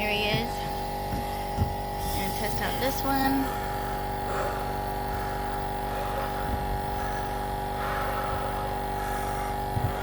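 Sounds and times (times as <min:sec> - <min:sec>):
air compressor humming: 0:00.0 - 0:10.0.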